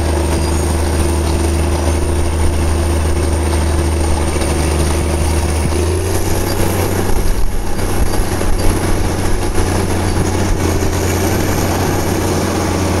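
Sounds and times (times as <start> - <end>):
tracked machine engine droning: 0.0 - 13.0.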